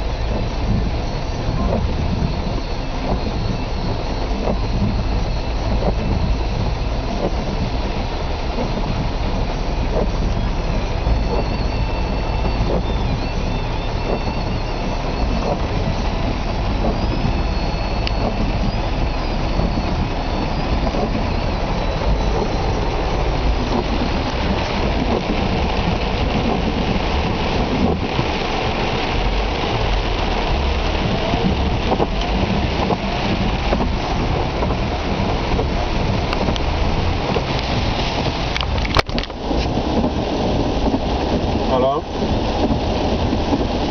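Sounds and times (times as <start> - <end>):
heavy rain on car roof: 0.0 - 43.9.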